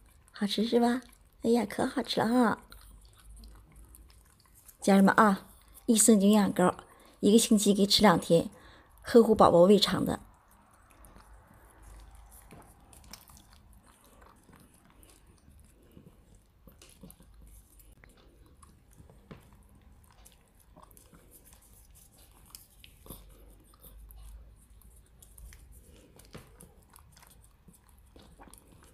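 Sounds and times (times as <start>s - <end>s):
dog licking and lip smacking: 0.0s - 7.1s, 9.3s - 28.9s.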